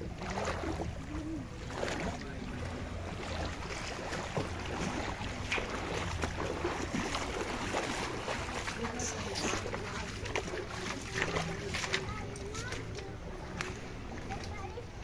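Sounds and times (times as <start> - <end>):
seawater lapping among rocks: 0.0 - 15.0
small splashes: 0.0 - 15.0.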